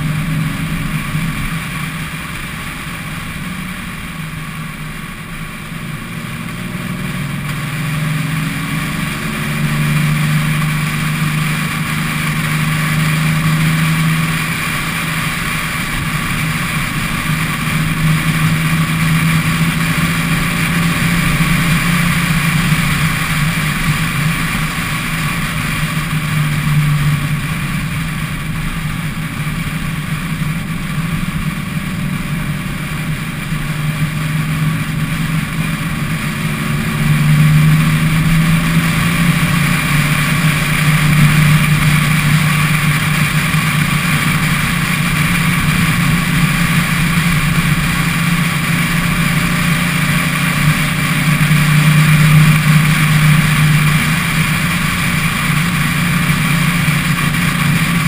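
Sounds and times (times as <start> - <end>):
car engine cruising: 0.0 - 58.0
road noise: 0.0 - 58.0
wind: 0.0 - 58.0.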